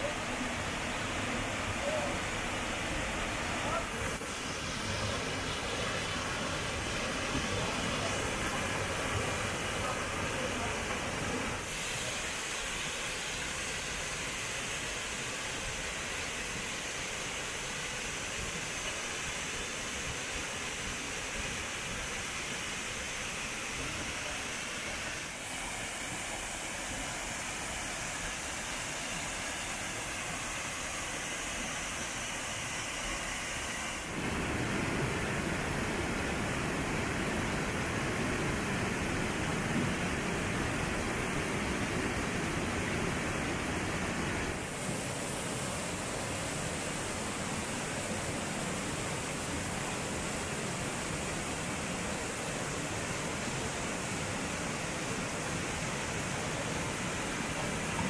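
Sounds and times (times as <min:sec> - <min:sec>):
waterfall rushing over rocks: 0:00.0 - 0:58.0.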